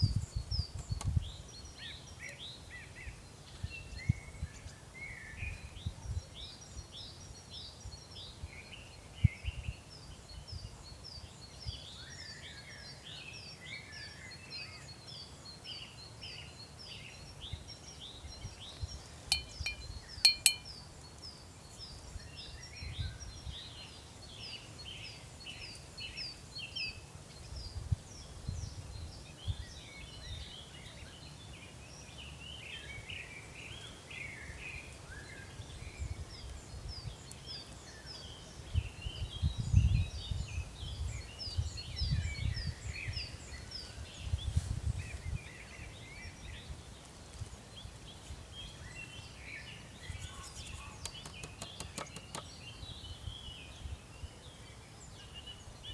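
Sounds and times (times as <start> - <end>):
small birds chirping and twittering: 0.0 - 55.9.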